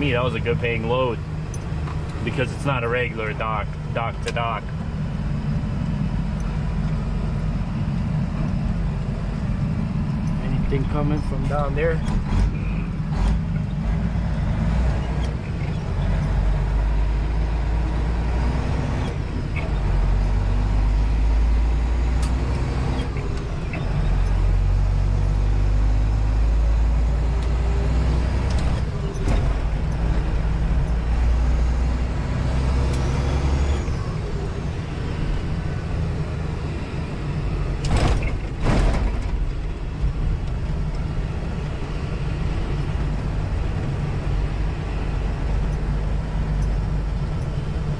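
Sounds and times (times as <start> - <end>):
diesel truck engine drone: 0.0 - 47.9.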